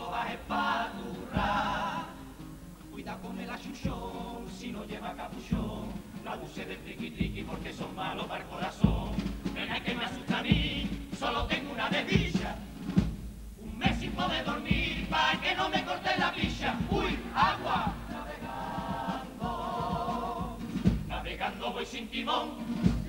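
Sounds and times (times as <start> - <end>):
choir singing with vibrato: 0.0 - 13.0, 13.6 - 23.0
guitar accompaniment: 0.0 - 23.0.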